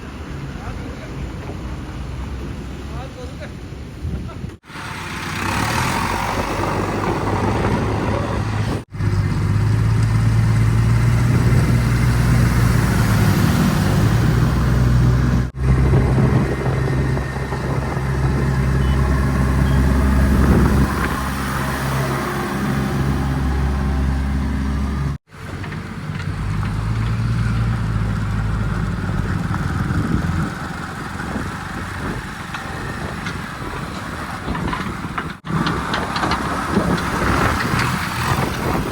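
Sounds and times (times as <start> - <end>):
heavy diesel machinery engines: 0.0 - 38.9.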